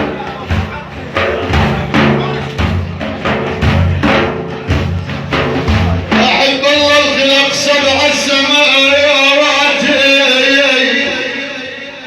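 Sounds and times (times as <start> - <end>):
frame drums beating: 0.0 - 10.2.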